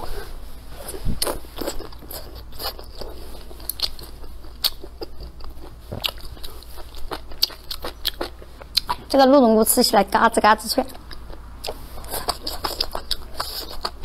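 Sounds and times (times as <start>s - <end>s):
person chewing wetly: 0.8s - 9.2s, 10.9s - 14.0s.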